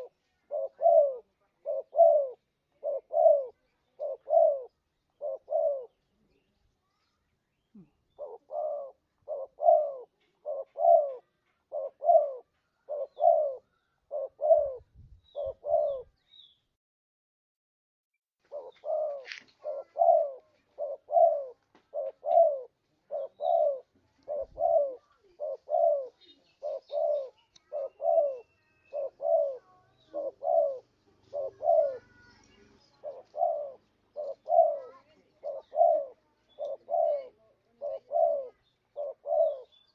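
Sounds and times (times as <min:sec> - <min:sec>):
dove cooing: 0:00.0 - 0:06.4, 0:07.8 - 0:16.2, 0:18.5 - 0:39.9.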